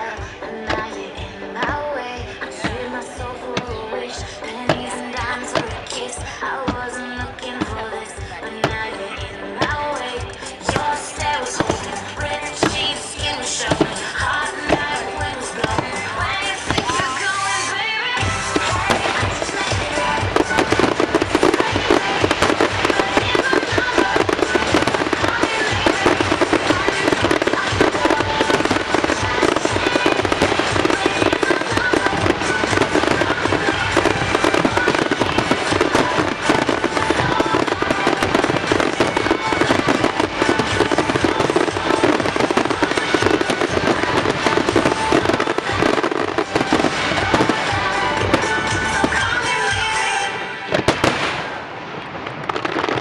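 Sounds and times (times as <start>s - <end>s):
fireworks cracking and banging: 0.0s - 53.0s
music playing: 0.0s - 53.0s.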